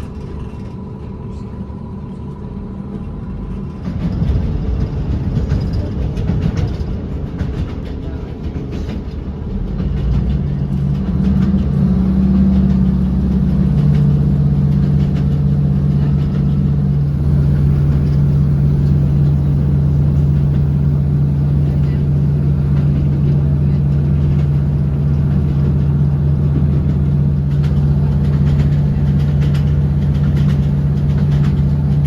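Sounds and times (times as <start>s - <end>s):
diesel train engine drone: 0.0s - 32.0s.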